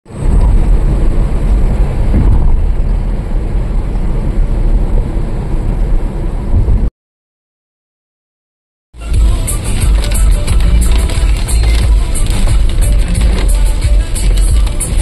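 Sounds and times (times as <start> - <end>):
road and wind noise: 0.0 - 6.9, 9.0 - 15.0.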